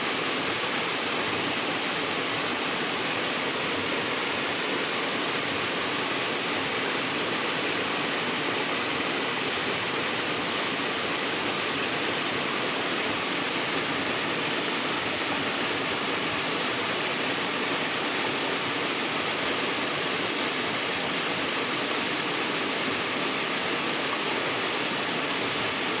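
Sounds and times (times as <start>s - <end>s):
waterfall and river rushing: 0.0s - 26.0s.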